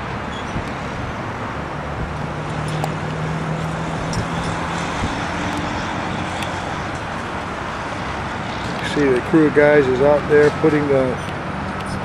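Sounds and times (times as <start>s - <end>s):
freeway traffic noise: 0.0s - 12.0s
vehicle engine droning: 0.0s - 12.0s.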